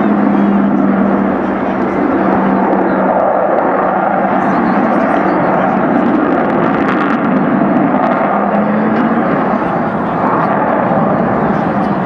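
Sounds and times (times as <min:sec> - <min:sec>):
jet engines roaring in flight: 0:00.0 - 0:12.0.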